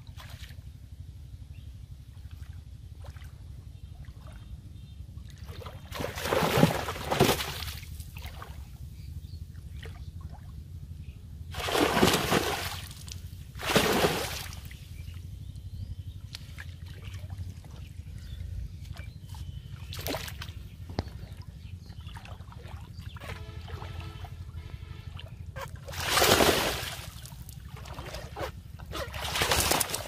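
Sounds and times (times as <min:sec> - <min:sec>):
water splashing and sloshing: 0:00.0 - 0:00.7, 0:02.1 - 0:08.9, 0:11.5 - 0:15.2, 0:16.2 - 0:30.0
steady low hum: 0:00.0 - 0:30.0.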